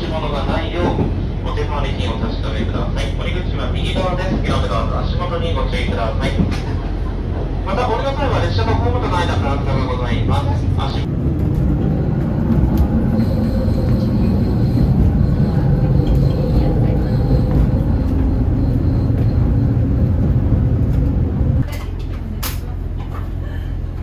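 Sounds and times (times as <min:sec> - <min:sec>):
diesel railcar rumble: 0:00.0 - 0:24.0.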